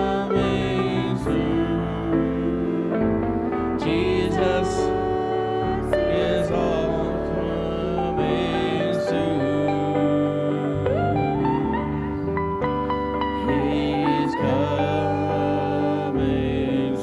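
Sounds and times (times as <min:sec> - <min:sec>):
slow gospel worship song: 0:00.0 - 0:17.0.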